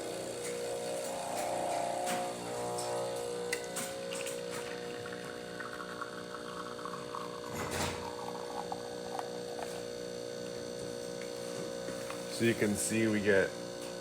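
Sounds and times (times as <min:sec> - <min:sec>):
espresso machine pump humming: 0:00.0 - 0:14.0.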